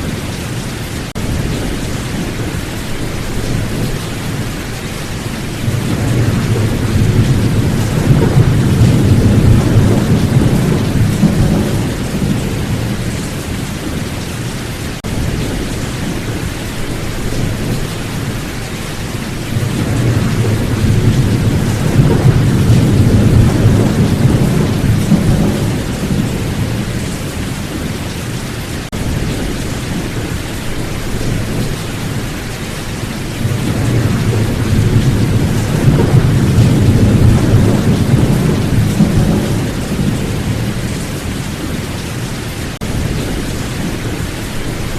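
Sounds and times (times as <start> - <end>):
steady rain falling: 0.0 - 44.9
low rolling thunder: 1.1 - 28.0, 28.9 - 42.0.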